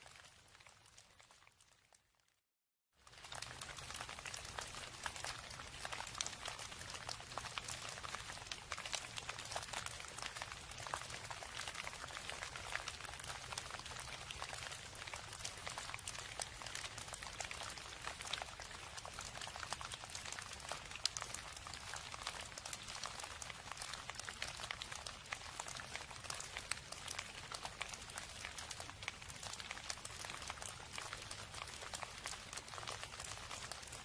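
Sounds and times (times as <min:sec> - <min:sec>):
raindrops pattering: 0:00.0 - 0:02.3, 0:03.0 - 0:34.0.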